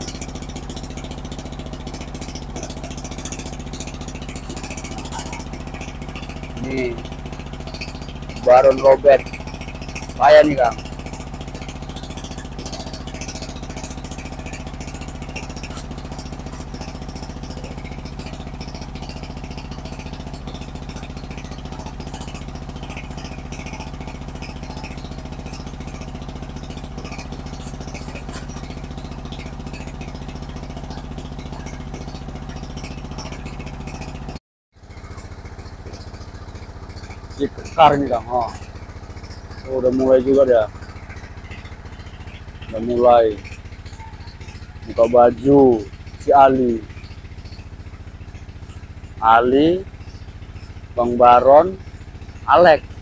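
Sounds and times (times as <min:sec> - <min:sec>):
machine engine humming: 0:00.0 - 0:53.0.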